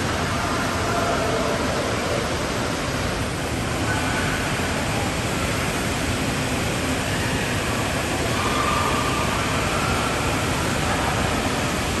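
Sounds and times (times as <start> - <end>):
water spraying into pool: 0.0 - 12.0.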